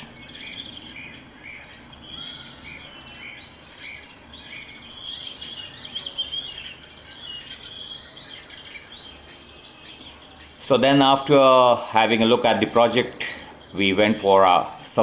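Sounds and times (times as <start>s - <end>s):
forest birds chirping and singing: 0.0s - 15.0s.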